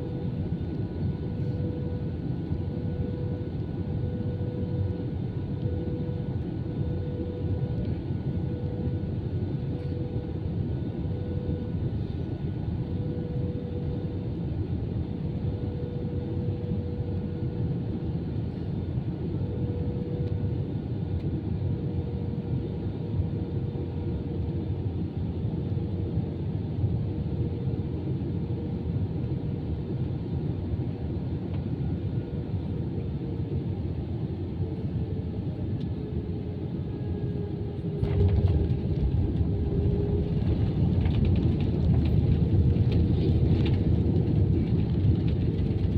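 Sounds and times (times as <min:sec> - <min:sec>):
aircraft cabin engine rumble: 0:00.0 - 0:45.9.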